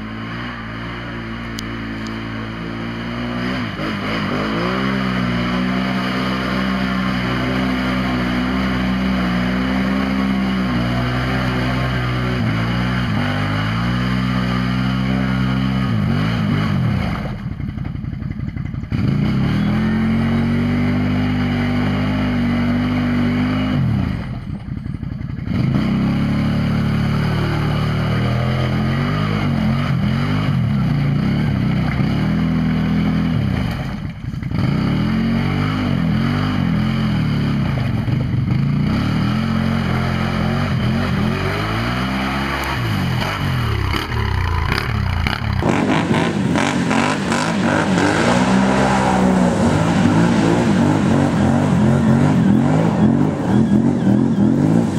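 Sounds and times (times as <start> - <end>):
atv engine revving: 0.0 - 54.9.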